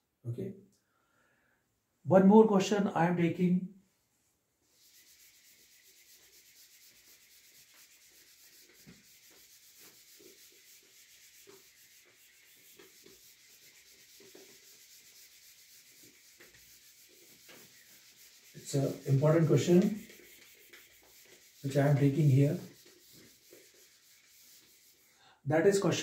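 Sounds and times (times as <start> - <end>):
eraser rubbing on a whiteboard: 4.6 - 25.8.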